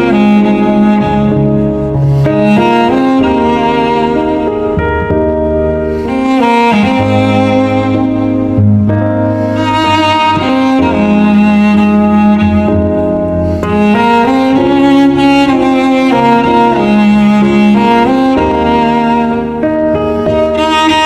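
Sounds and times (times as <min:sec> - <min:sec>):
slow cello and violin melody: 0:00.0 - 0:21.0.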